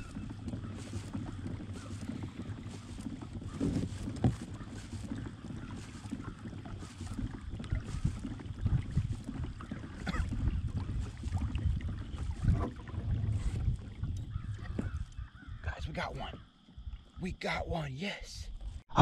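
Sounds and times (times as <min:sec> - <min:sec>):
wind rumbling on microphone: 0:00.0 - 0:17.3
water sloshing against hull: 0:00.0 - 0:17.4.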